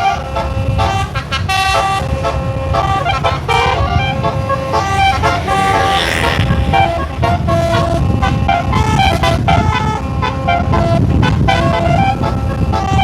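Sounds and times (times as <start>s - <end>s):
low rumble of bus and traffic: 0.0s - 13.0s
musical multi-tone bus horn: 0.0s - 13.0s.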